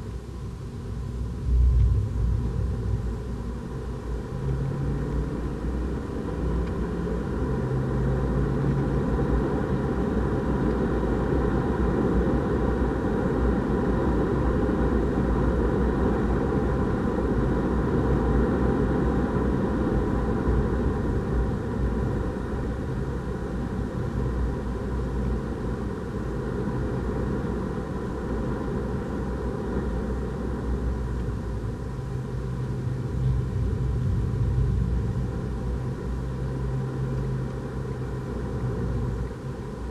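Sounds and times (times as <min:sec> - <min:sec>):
road and tyre rumble: 0:00.0 - 0:39.9
car engine at speed: 0:00.4 - 0:39.9.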